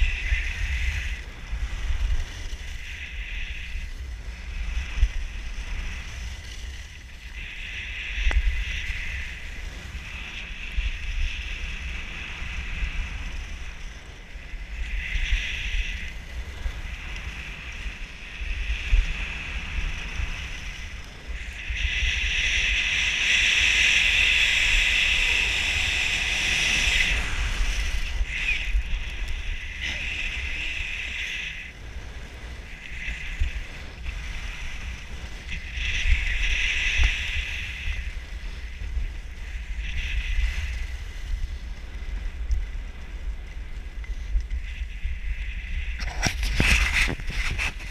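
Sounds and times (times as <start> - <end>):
skis scraping over snow: 0.0 - 47.9
wind buffeting microphone: 0.0 - 47.9.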